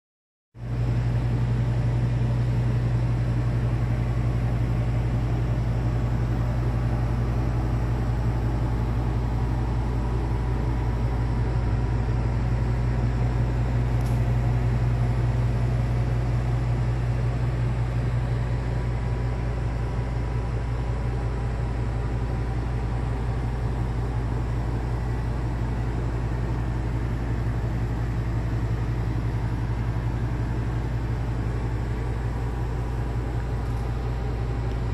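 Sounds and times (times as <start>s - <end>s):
low mechanical hum: 0.6s - 34.9s.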